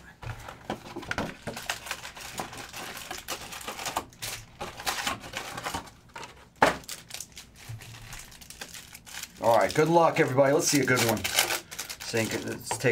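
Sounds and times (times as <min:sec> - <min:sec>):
card packs crackling and rustling: 0:00.3 - 0:12.9.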